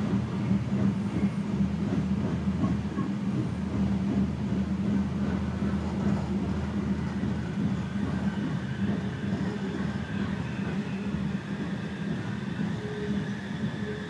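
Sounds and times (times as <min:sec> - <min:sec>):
train rumble and hum: 0:00.0 - 0:14.0.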